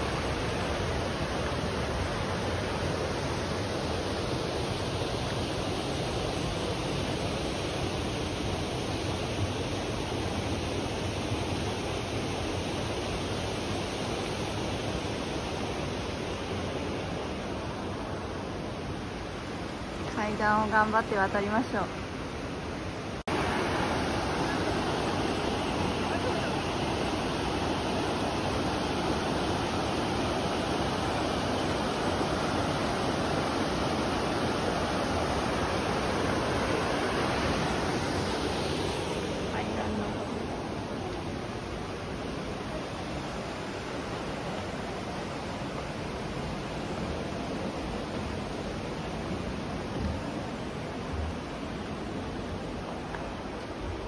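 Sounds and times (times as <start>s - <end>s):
fast-flowing water rushing: 0.0s - 54.0s.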